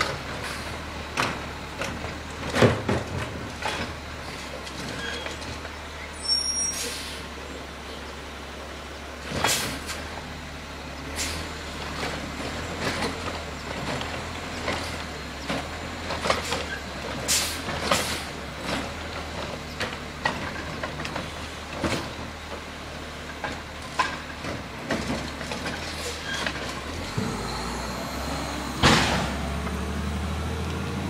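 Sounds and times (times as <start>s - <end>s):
garbage truck diesel hum: 0.0s - 31.0s.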